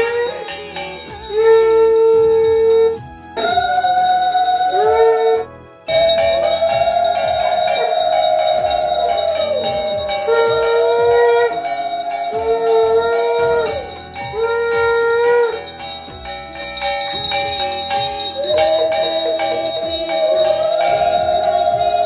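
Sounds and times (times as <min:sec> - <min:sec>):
hand bell ringing: 0:00.0 - 0:22.0
held musical notes: 0:00.0 - 0:22.0.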